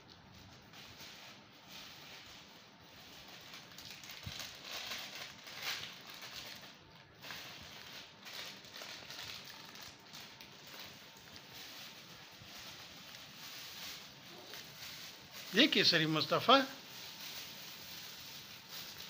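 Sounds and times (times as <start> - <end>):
plastic bag rustling and crinkling: 0.0 - 19.0.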